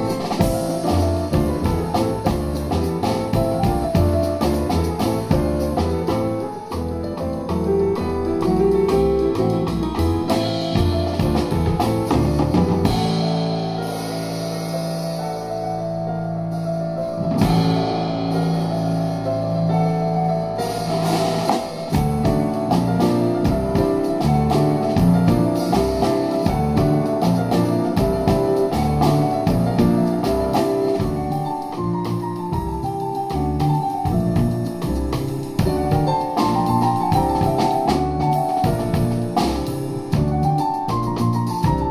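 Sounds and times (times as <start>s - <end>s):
double bass: 0.0s - 41.9s
drum kit: 0.0s - 41.9s
grand piano: 0.0s - 41.9s.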